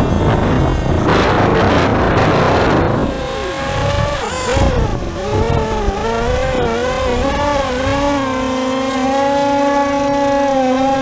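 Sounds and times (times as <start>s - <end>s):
electric motors and propellers whining: 0.0s - 11.0s
wind rumbling on microphone: 0.0s - 11.0s.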